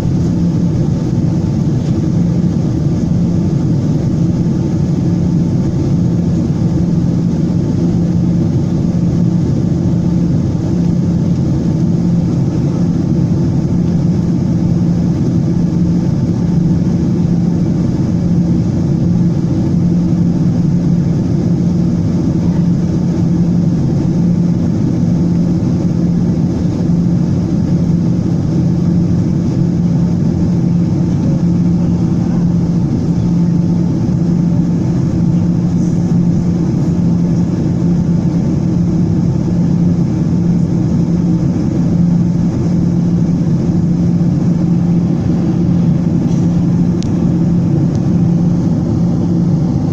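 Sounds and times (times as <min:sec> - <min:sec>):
jet engine and airflow drone: 0:00.0 - 0:49.9
low hum: 0:00.0 - 0:49.9.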